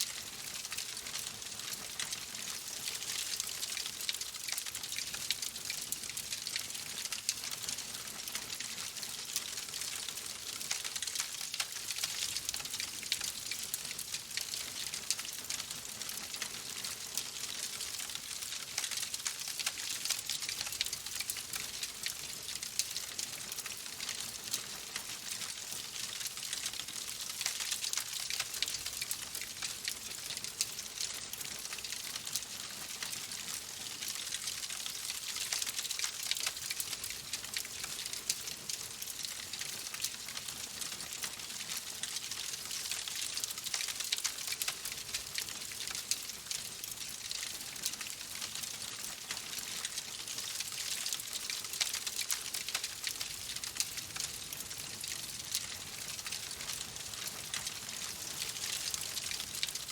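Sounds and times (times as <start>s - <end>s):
wood fire crackling: 0.2s - 59.9s.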